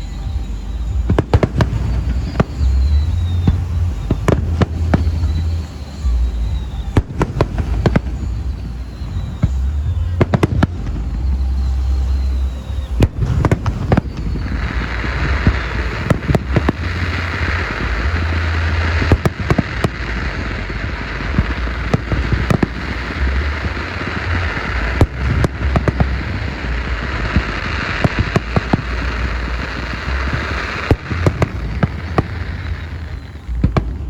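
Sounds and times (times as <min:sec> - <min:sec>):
firework shells bursting: 0:00.0 - 0:34.0
low booming rumble: 0:00.0 - 0:34.0
steady hiss: 0:00.0 - 0:34.0.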